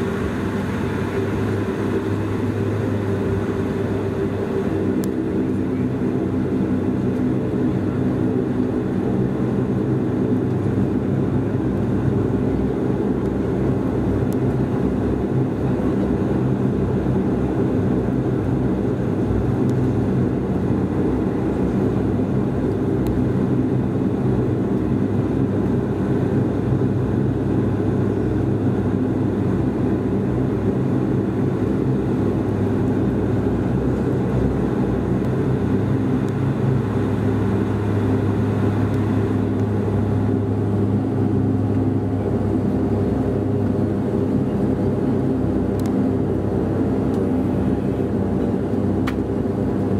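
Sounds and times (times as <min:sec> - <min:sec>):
turboprop cabin drone: 0:00.0 - 0:49.9.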